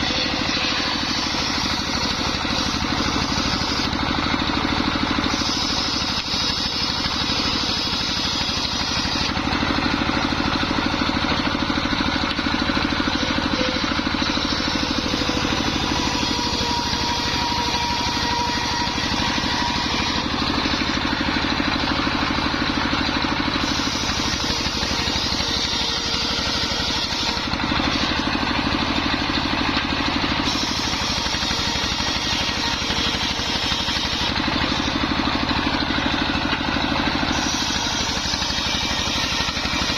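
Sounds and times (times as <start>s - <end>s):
circular saw blade cutting timber: 0.0s - 39.9s
sawmill engine running: 0.0s - 39.9s.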